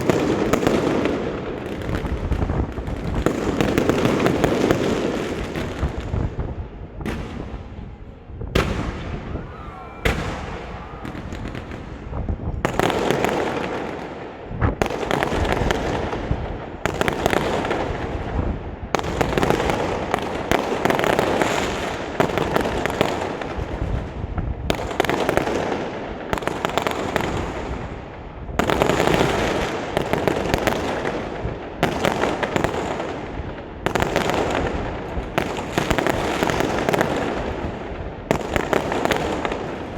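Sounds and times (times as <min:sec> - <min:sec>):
fireworks booming and crackling: 0:00.0 - 0:39.9.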